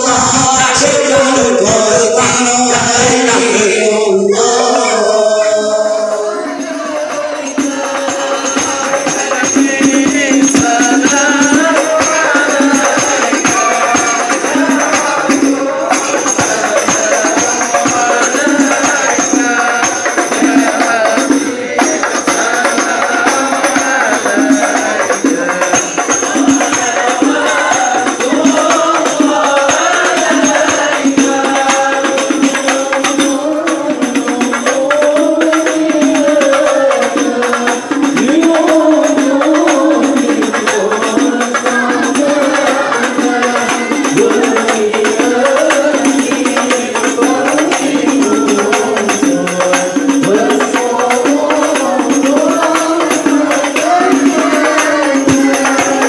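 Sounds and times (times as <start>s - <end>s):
frame drum beating: 0.0s - 4.9s, 6.1s - 56.0s
men singing devotional chant: 0.0s - 56.0s.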